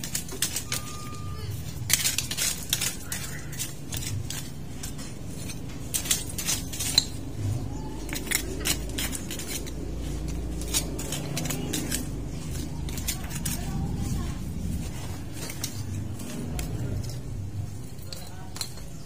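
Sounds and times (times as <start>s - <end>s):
weeds being pulled: 0.0s - 19.0s.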